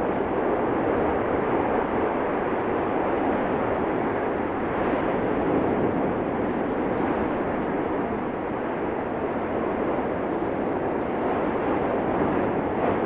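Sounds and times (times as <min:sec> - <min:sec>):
volcanic eruption roar: 0:00.0 - 0:13.0.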